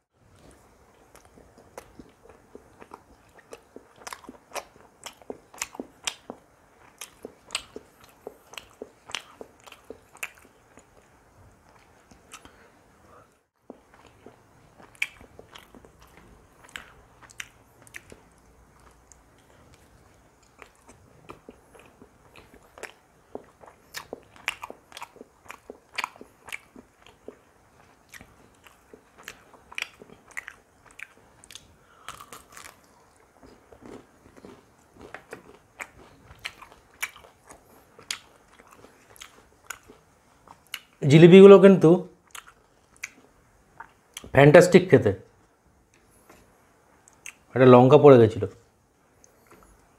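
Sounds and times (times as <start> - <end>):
person chewing food: 0.2 - 12.8, 13.6 - 41.0, 42.2 - 44.3, 45.3 - 47.5, 49.1 - 49.9.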